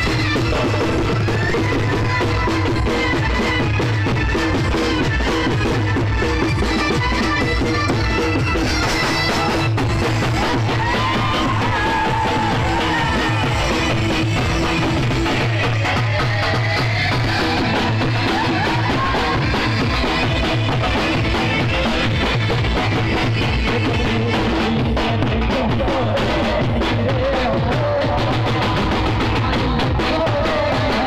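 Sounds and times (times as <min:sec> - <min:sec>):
drum set beat: 0:00.0 - 0:31.0.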